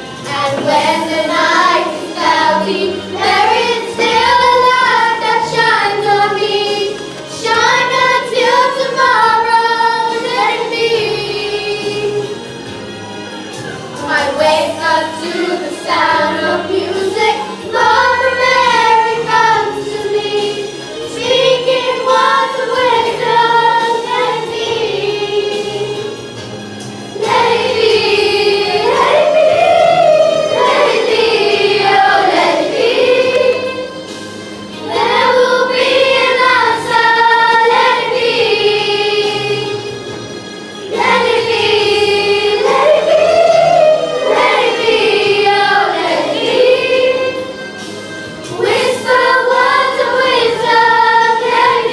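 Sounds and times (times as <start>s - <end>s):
children singing together: 0.0s - 12.6s, 13.5s - 51.9s
instrumental accompaniment: 0.0s - 51.9s.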